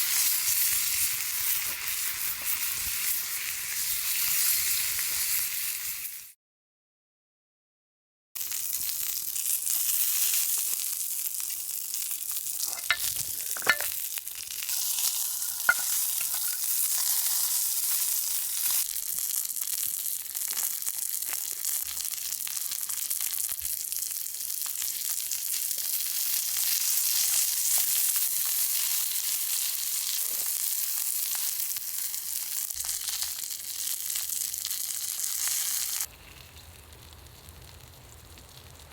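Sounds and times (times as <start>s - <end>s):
steak sizzling on griddle: 0.0s - 6.4s, 8.4s - 38.9s.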